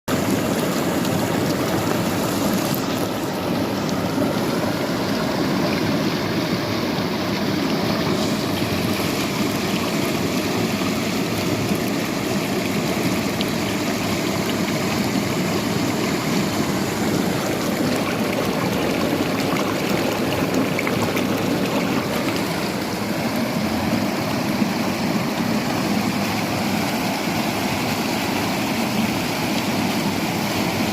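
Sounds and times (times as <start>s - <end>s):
water flowing steadily: 0.1s - 30.9s.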